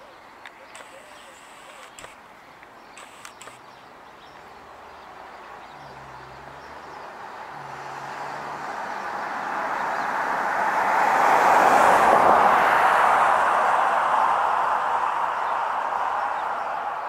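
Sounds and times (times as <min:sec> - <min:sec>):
car approaching: 0:00.4 - 0:17.0.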